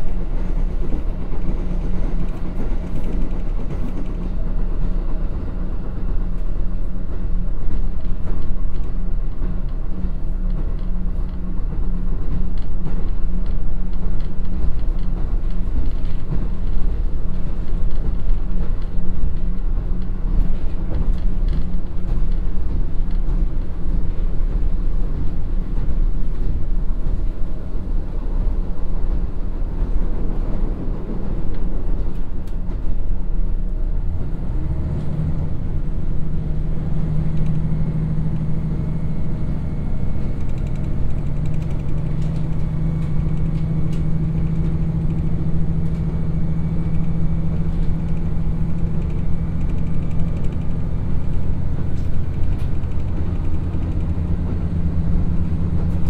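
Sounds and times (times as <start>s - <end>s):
diesel engine drone: 0.0s - 56.0s
train wheels rumbling on rail: 0.0s - 56.0s.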